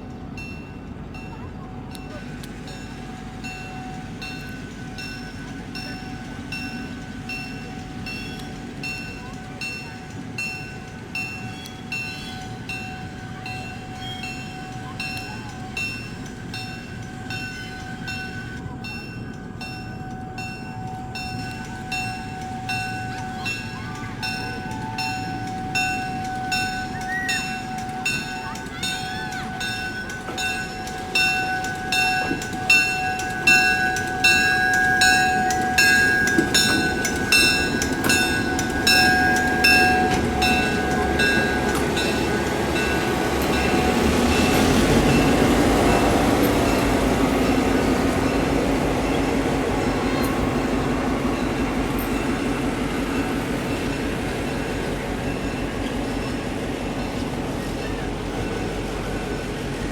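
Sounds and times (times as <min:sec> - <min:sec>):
locomotive bell ringing: 0:00.0 - 0:59.9
train running hum: 0:00.0 - 0:59.9.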